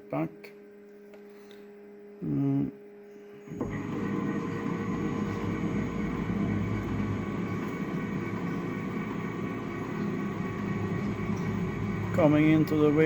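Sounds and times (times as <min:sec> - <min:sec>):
machine hum with rumble: 0:01.1 - 0:13.0.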